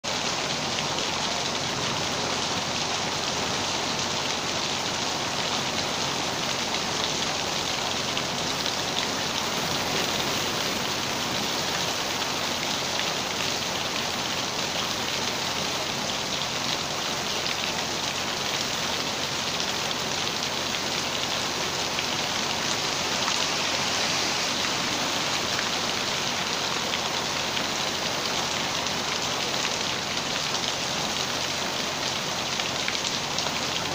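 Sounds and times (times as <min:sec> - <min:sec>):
steady rain pattering: 0:00.0 - 0:33.9.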